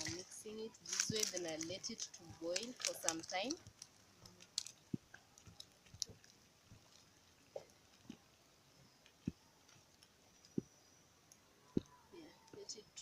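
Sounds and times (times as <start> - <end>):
fire crackling: 0.0 - 12.6.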